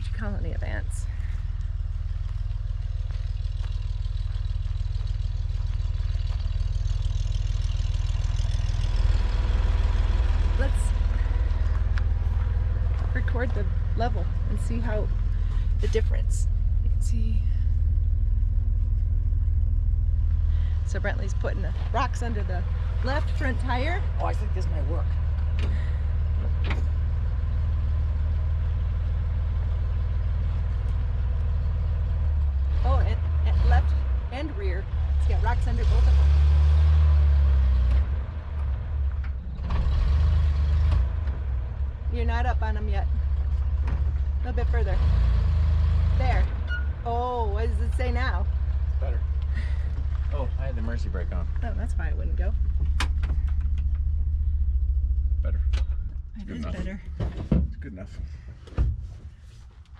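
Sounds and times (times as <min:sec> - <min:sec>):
van engine idling: 0:00.0 - 0:59.9.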